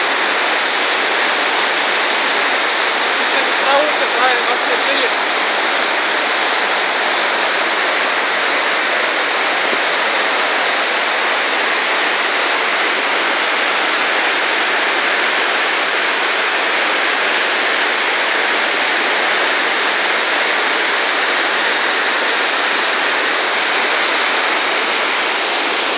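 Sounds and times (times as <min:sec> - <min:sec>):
waterfall roaring: 0:00.0 - 0:25.9.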